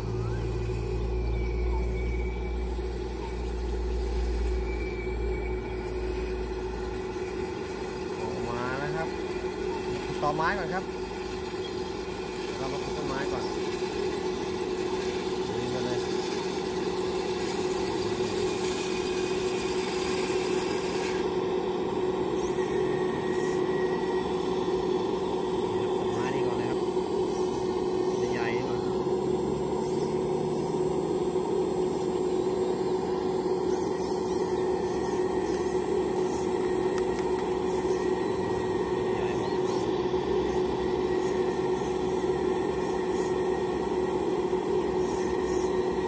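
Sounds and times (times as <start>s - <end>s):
toy excavator motor humming: 0.0s - 46.0s.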